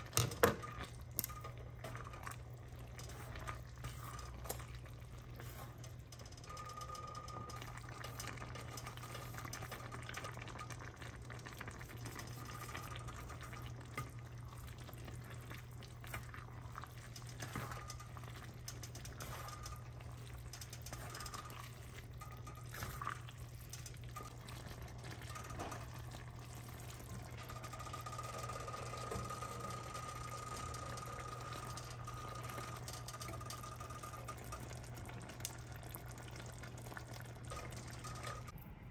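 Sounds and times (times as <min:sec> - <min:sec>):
sauce simmering in a pot: 0:00.0 - 0:38.6.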